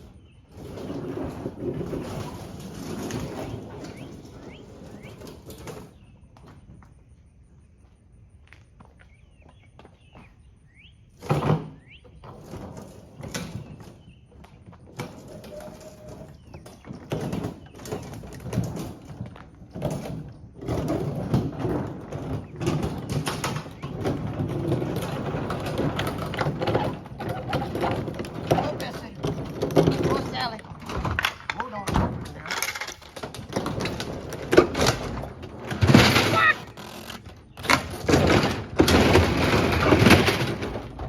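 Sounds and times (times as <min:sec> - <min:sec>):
knocks bangs and scraping: 0:00.0 - 0:06.9, 0:11.1 - 0:41.0.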